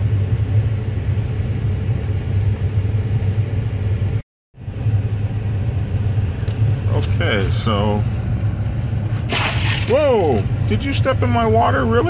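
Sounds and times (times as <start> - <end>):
car engine rumbling inside cabin: 0.0 - 12.0.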